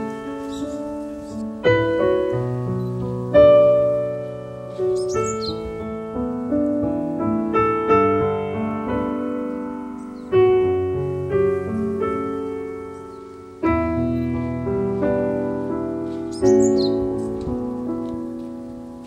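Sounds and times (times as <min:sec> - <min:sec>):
slow solo piano chords: 0:00.0 - 0:19.0.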